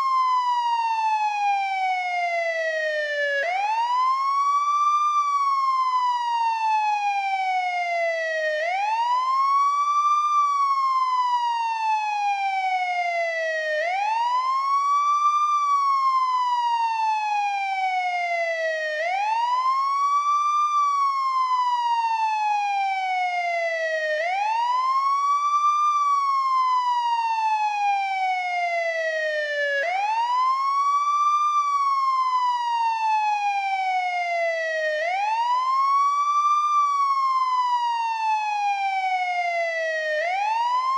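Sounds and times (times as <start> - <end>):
police siren wailing: 0.0 - 40.9.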